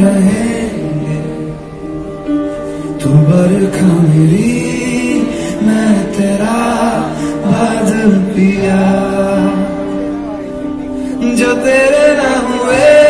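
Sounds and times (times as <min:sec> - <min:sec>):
man singing: 0:00.0 - 0:02.0, 0:02.9 - 0:13.0
piano: 0:00.0 - 0:13.0.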